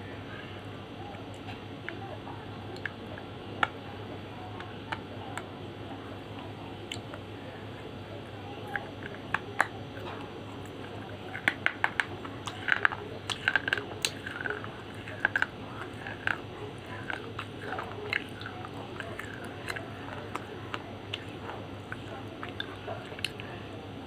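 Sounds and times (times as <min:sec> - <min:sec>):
crunching and chewing: 0:01.1 - 0:24.0.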